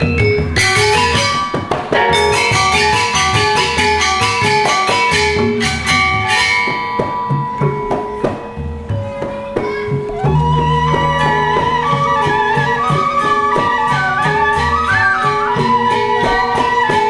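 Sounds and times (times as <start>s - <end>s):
drum beats: 0.0s - 17.0s
gamelan metallophones: 0.0s - 17.0s.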